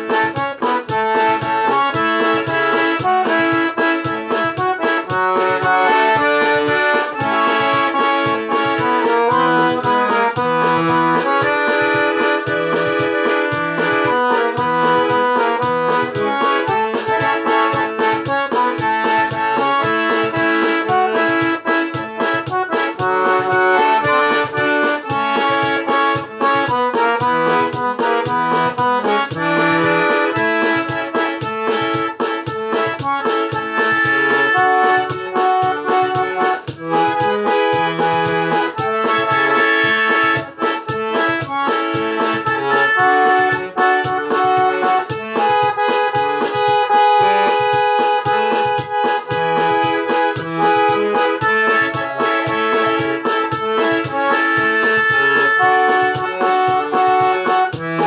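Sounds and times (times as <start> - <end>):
accordion playing lively tune: 0.0 - 58.0.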